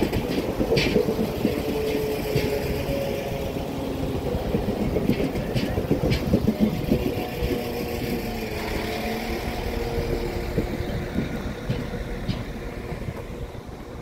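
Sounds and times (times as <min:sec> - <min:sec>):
train diesel engines droning: 0:00.0 - 0:14.0.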